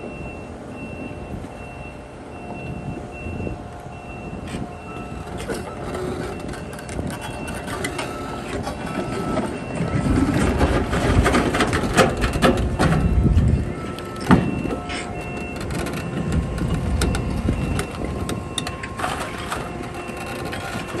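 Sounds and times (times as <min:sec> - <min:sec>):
lower-pitched beep: 0:00.0 - 0:10.2, 0:12.1 - 0:21.0
backup alarm beeping: 0:00.0 - 0:21.0
engine running: 0:00.0 - 0:21.0
tracks clanking on trailer deck: 0:00.8 - 0:21.0.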